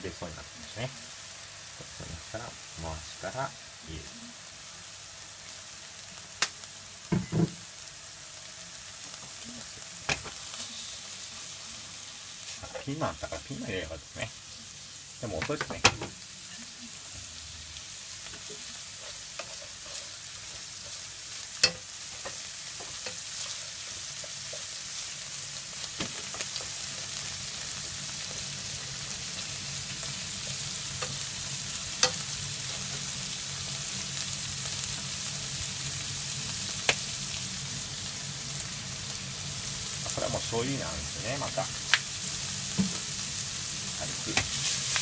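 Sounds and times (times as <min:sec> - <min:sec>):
vegetables sizzling in a frying pan: 0:00.0 - 0:45.0.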